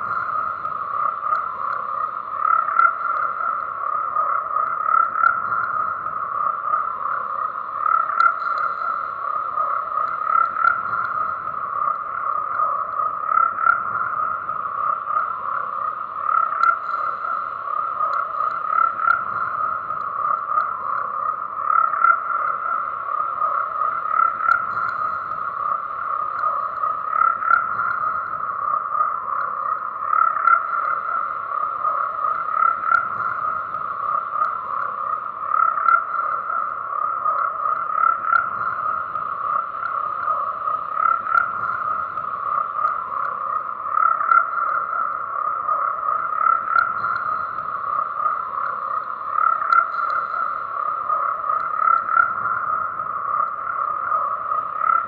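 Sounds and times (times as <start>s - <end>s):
frogs croaking chorus: 0.0s - 55.0s.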